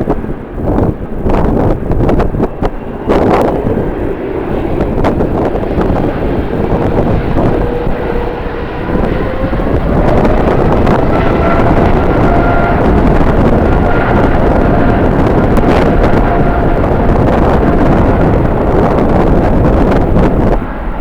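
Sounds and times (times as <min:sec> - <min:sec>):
engine whine rising in pitch: 0:00.0 - 0:21.0
jet engines rumbling: 0:00.0 - 0:21.0
wind buffeting microphone: 0:00.0 - 0:21.0.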